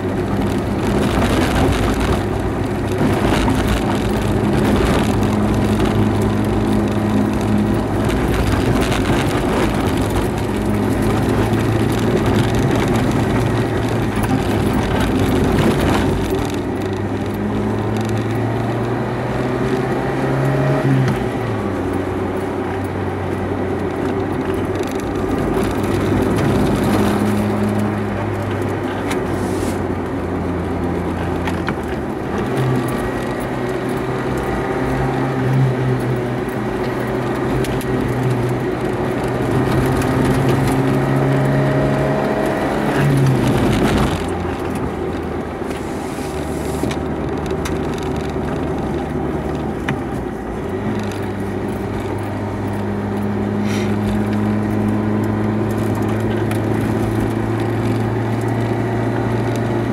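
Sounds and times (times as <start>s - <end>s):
car engine pulling: 0.0s - 59.9s
road noise: 0.0s - 59.9s.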